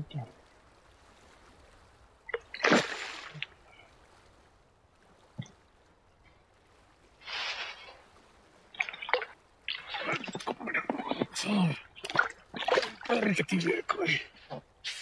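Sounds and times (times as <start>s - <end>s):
water splashing: 0.0s - 4.4s, 6.7s - 14.6s.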